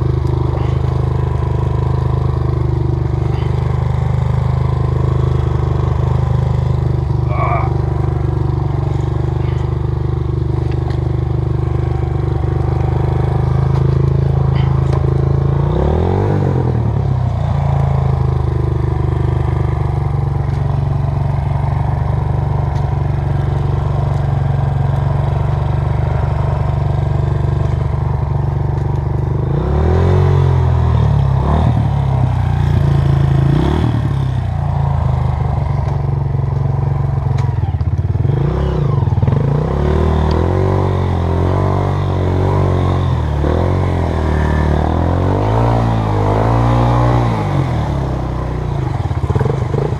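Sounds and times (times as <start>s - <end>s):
dirt bike engine revving: 0.0s - 28.6s, 29.2s - 36.0s, 36.8s - 49.9s.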